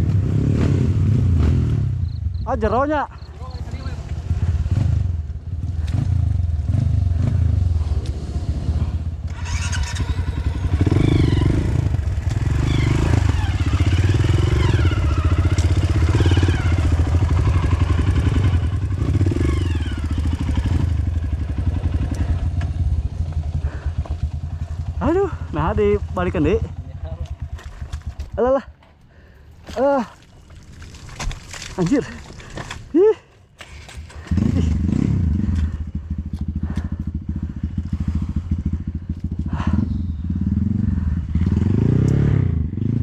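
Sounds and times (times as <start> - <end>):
motorcycle engine revving: 0.0 - 28.8, 33.6 - 43.0.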